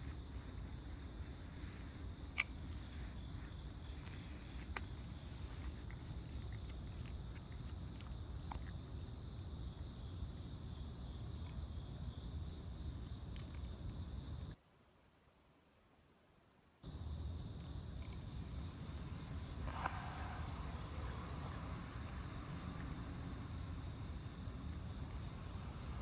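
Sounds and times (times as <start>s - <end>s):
crickets trilling: 0.0s - 14.6s, 16.8s - 26.0s.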